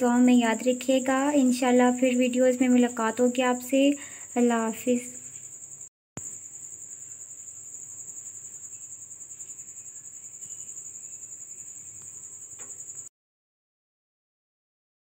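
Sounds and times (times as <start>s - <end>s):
cricket chirping trill: 0.0s - 13.1s.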